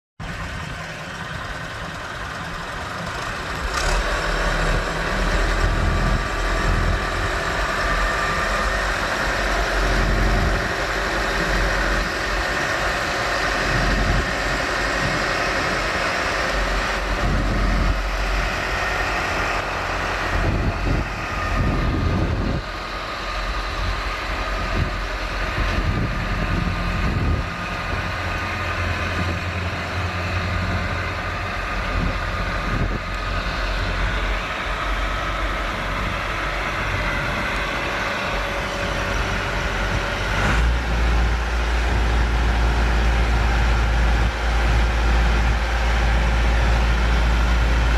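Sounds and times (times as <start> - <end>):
tractor diesel engine running: 0.2 - 47.9.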